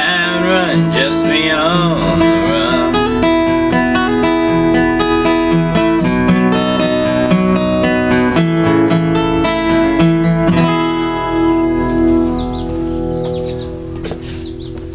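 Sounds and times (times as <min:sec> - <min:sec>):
acoustic guitar strumming: 0:00.0 - 0:14.9.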